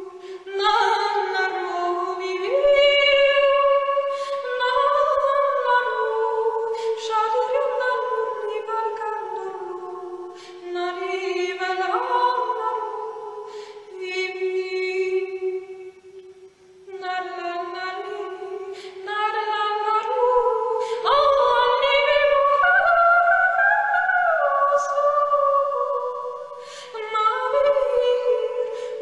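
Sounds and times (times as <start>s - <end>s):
slow vocal singing: 0.0s - 29.0s.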